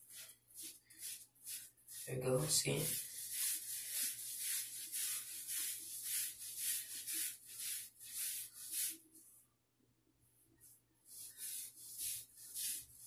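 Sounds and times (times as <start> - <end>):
hairbrush scraping through wet hair: 0.0 - 9.0, 11.2 - 13.0.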